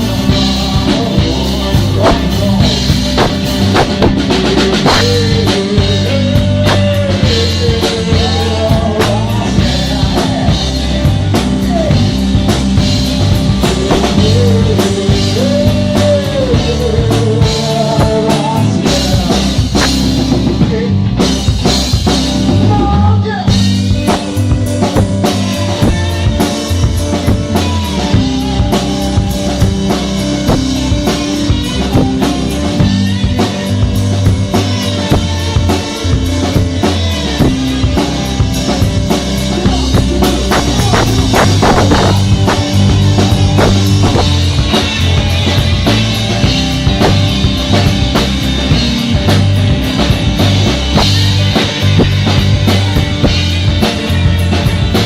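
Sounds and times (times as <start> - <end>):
bending lead melody: 0.0 - 55.0
drum kit beat: 0.0 - 55.0
sustained bass notes: 0.0 - 55.0.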